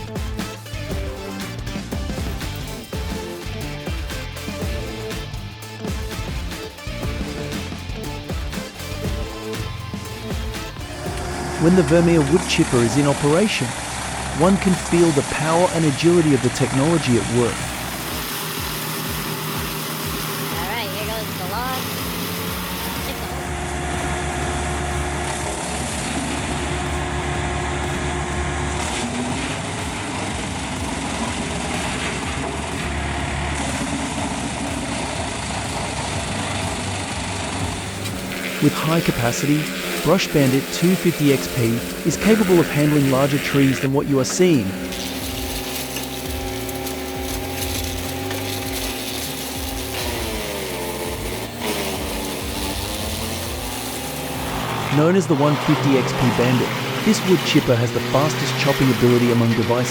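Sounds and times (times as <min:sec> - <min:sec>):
wood chipper chipping log: 0:00.0 - 0:59.9.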